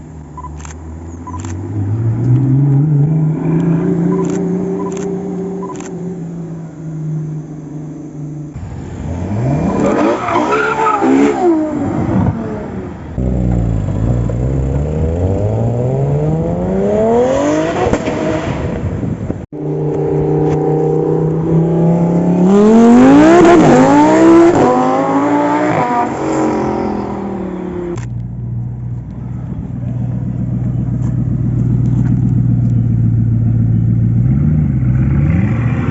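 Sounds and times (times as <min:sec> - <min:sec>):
car engine idling and accelerating: 0:00.0 - 0:35.9.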